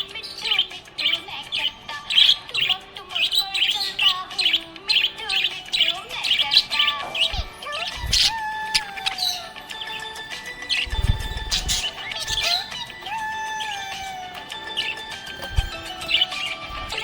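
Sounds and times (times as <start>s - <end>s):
parrots chirping: 0.0s - 17.0s.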